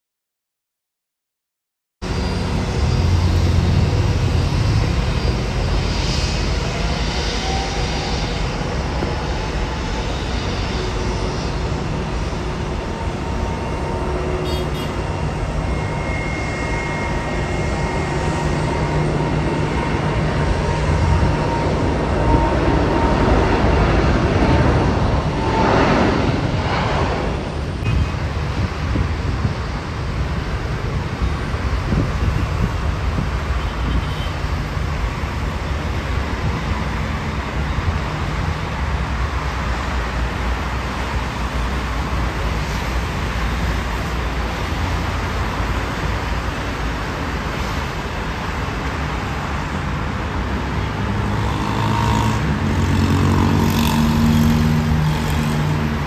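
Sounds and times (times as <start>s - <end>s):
jet engines running: 2.0s - 56.0s.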